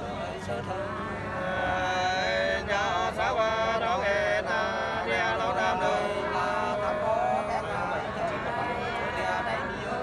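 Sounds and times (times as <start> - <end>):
unaccompanied folk singing voices: 0.0 - 10.0.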